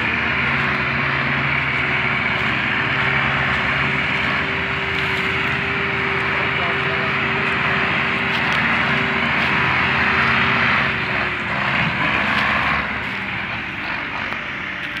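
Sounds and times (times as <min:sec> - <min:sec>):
diesel tractor engine under load: 0:00.0 - 0:15.0.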